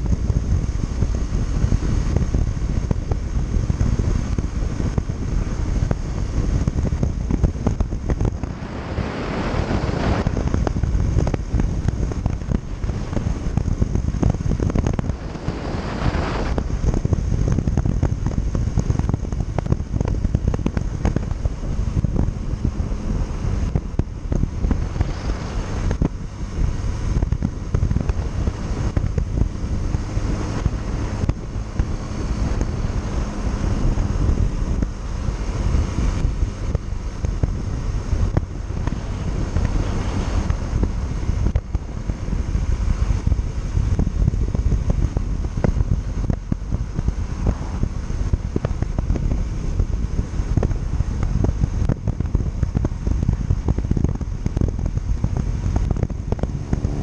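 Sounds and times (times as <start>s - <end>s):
motorcycle engine hum: 0.0s - 57.0s
wind buffeting microphone: 0.0s - 57.0s.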